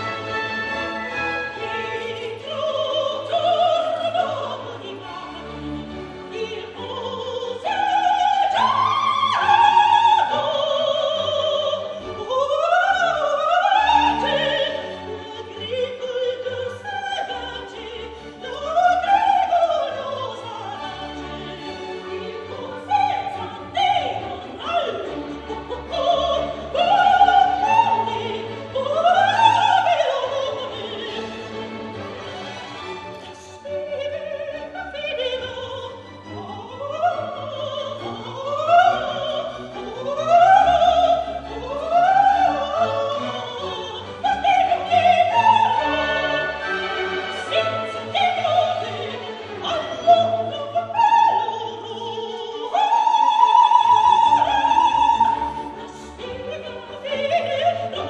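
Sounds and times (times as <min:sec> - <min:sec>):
soprano singing opera aria: 0:00.0 - 0:58.0
symphony orchestra: 0:00.0 - 0:58.0.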